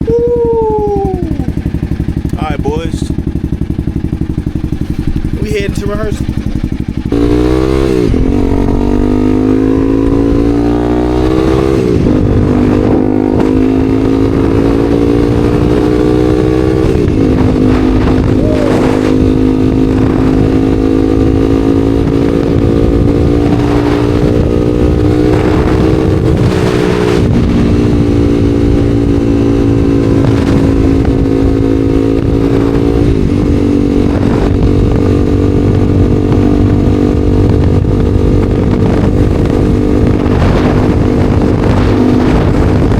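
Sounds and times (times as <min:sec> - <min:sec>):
motorcycle engine shifting gears: 0:00.0 - 0:42.9.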